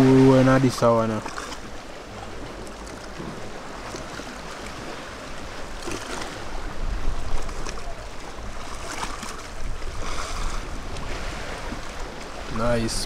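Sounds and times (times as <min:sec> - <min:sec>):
waves splashing against sea wall: 0:00.0 - 0:13.0.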